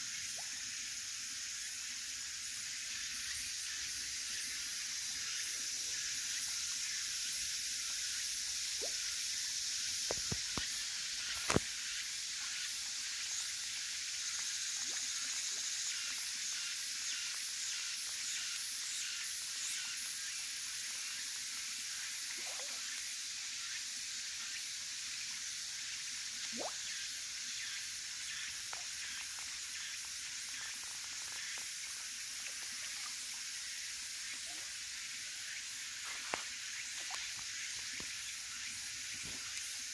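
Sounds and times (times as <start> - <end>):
high-pitched outdoor hiss: 0.0 - 39.9.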